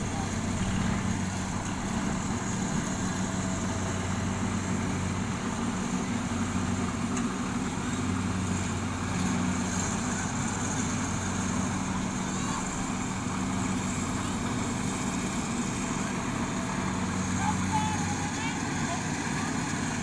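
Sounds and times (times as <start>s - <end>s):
distant diesel engine humming: 0.0s - 20.0s.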